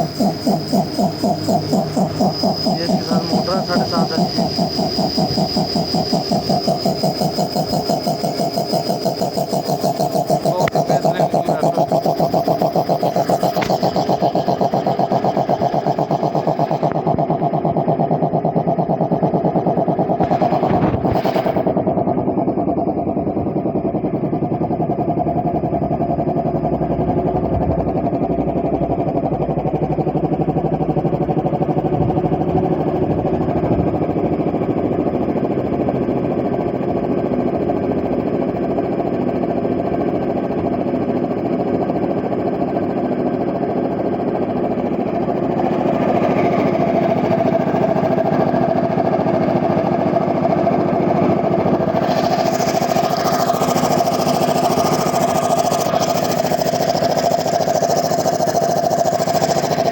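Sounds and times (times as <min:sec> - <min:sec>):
piston air compressor running: 0:00.0 - 0:59.9.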